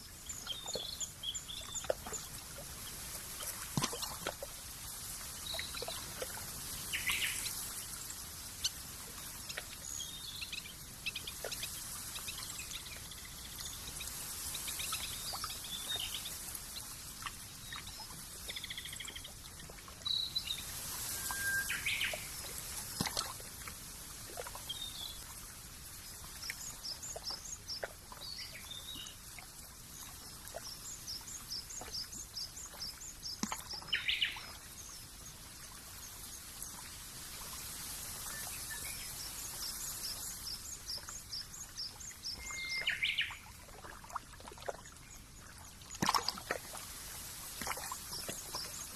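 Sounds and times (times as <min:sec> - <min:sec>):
soft steady hiss: 0:00.0 - 0:48.9.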